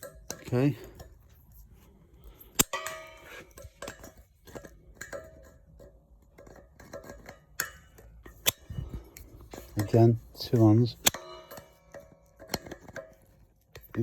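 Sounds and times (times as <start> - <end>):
metal tools clinking and scraping: 0.0 - 14.0.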